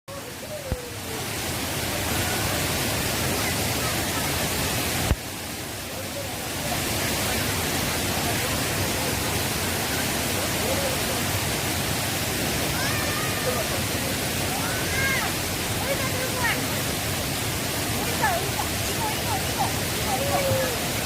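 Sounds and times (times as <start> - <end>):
stream water rushing over rocks: 0.1 - 21.0.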